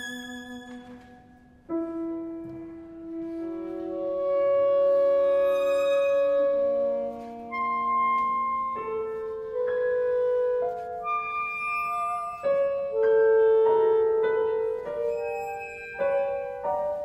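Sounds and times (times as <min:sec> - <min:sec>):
chamber ensemble playing classical music: 0:00.0 - 0:17.0.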